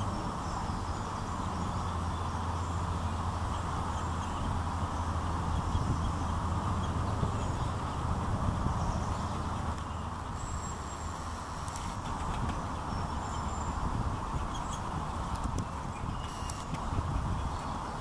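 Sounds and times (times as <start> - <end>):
outdoor rumble and hiss: 0.0 - 18.0.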